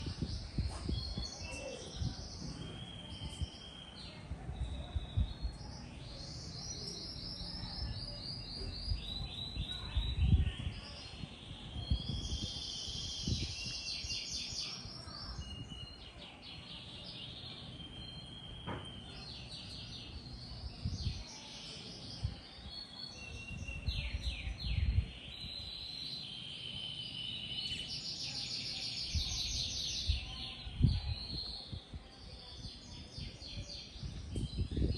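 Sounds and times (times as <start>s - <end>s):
birds chirping and trilling: 0.0s - 34.9s.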